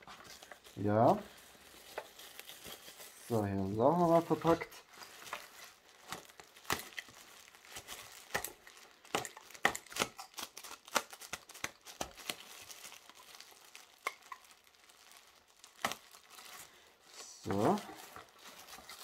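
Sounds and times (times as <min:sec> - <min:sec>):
plastic wrapping crinkling and tearing: 0:00.0 - 0:19.0.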